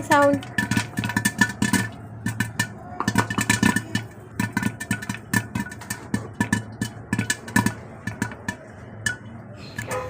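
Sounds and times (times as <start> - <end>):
popcorn popping against lid: 0.0 - 10.0.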